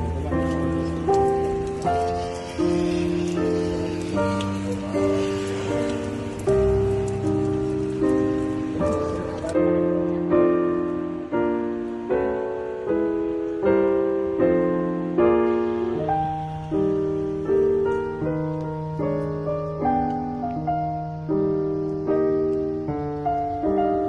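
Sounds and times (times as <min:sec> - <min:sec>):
gentle piano music: 0:00.0 - 0:24.0
rain hiss: 0:00.0 - 0:24.0.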